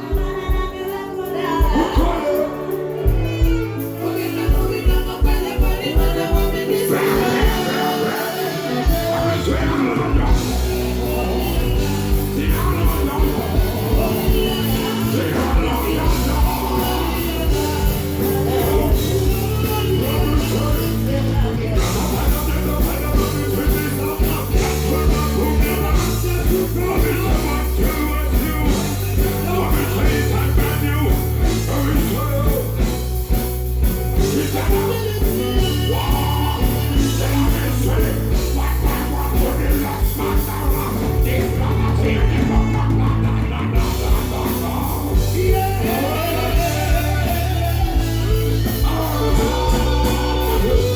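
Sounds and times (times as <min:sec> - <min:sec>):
amplified band music: 0:00.0 - 0:50.9
person singing: 0:00.0 - 0:50.9.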